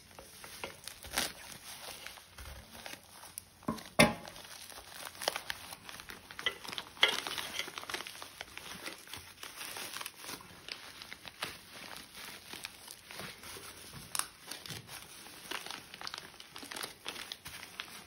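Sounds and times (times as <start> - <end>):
packaging crinkling and tearing: 0.0 - 18.0.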